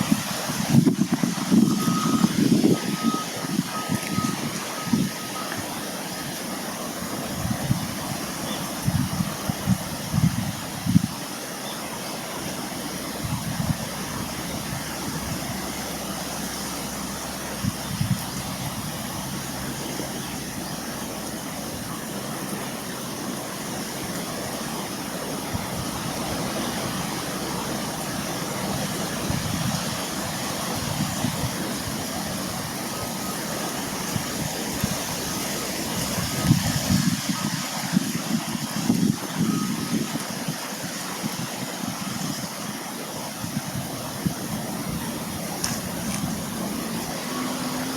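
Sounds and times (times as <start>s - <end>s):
outdoor hiss: 0.0s - 47.9s
wind buffeting microphone: 0.0s - 47.9s.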